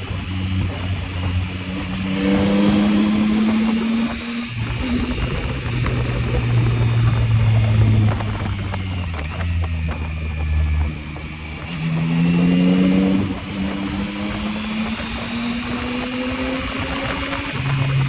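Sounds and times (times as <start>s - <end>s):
motorcycle engine accelerating: 0.0s - 18.0s
wind rushing: 0.0s - 18.0s.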